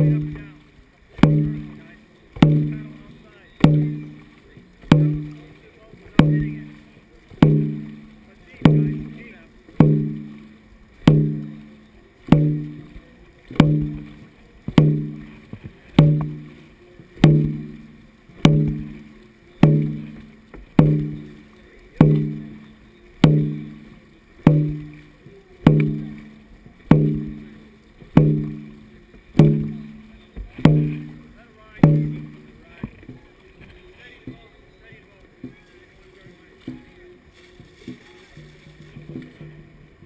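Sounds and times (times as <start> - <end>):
booming drum beat: 0.0 - 33.0.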